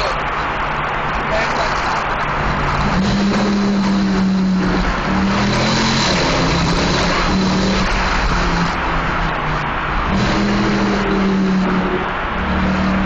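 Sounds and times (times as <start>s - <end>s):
car engine roaring in tunnel: 0.0s - 13.0s.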